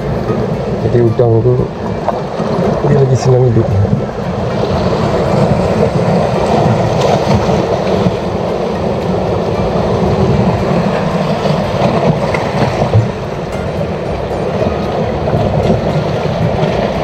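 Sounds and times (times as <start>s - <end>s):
sea at rocky shore: 0.0s - 17.0s
wind: 0.0s - 17.0s.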